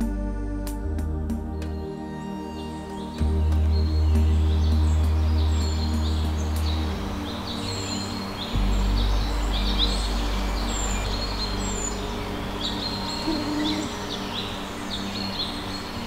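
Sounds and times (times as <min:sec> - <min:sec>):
steady low rumble: 0:00.0 - 0:16.0
birds calling and singing: 0:01.5 - 0:16.0.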